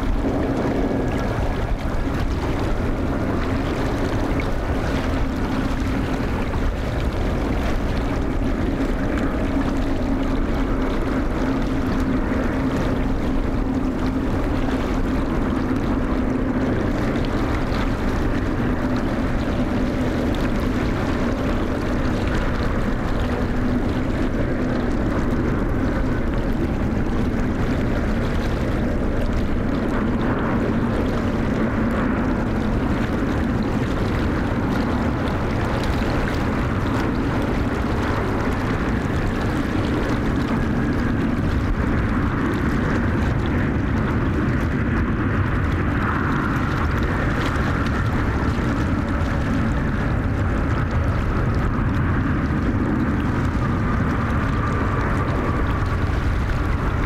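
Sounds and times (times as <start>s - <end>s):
jet engines droning: 0.0s - 57.0s
wind rumble on microphone: 0.0s - 57.0s.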